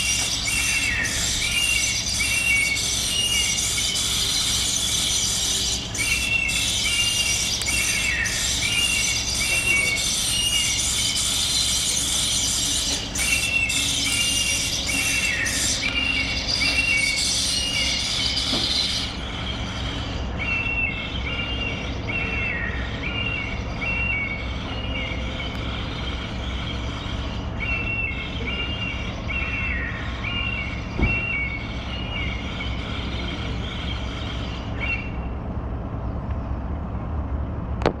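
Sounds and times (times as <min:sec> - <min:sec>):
bird chirping: 0:00.0 - 0:35.4.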